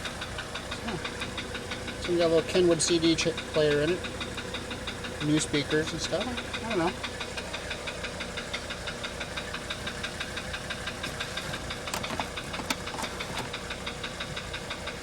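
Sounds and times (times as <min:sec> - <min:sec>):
diesel engine idling with knock: 0:00.0 - 0:15.0.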